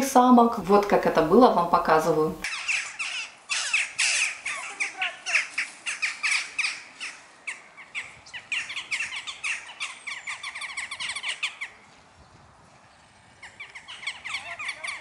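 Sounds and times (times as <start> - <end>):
jackdaws calling: 0.7 - 11.9, 13.0 - 15.0.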